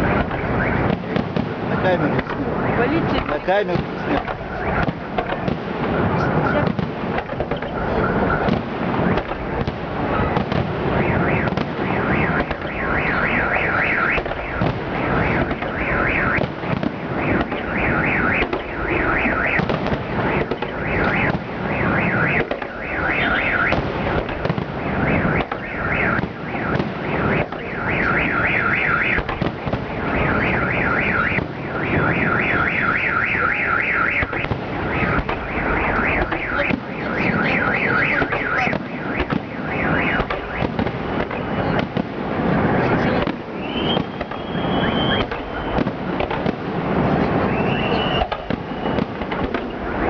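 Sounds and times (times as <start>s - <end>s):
car alarm warbling: 0.0s - 50.0s
fireworks bangs: 0.0s - 50.0s.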